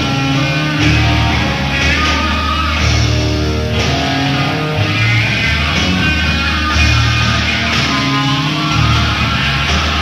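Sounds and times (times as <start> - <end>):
electric guitar sustained notes: 0.0 - 10.0
live rock band playing: 0.0 - 10.0.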